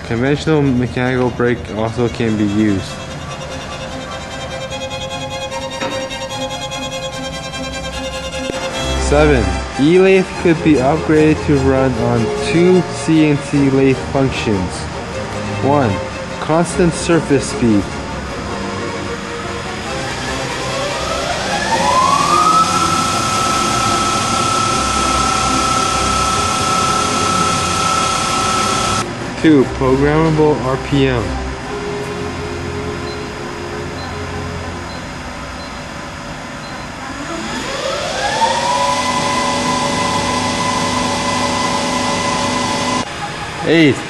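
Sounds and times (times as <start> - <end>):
lathe motor whining: 0.0 - 44.0.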